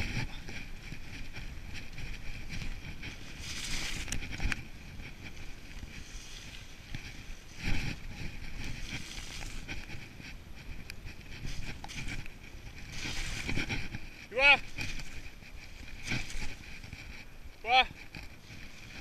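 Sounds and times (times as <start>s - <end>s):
bike clicks: 0.0s - 19.0s
bike tyres rumbling on gravel: 0.0s - 19.0s
wind buffeting microphone: 0.0s - 19.0s.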